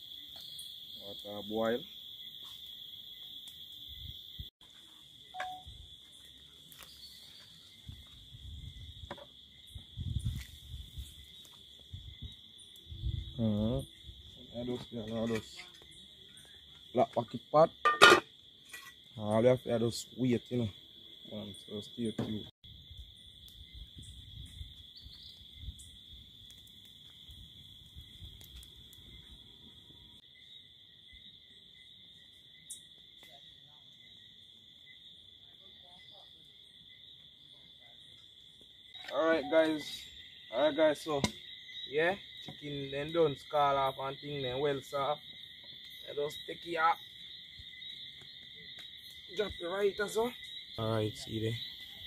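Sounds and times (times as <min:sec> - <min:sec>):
crickets droning: 0:00.0 - 0:52.0
insects chirring: 0:00.0 - 0:52.0.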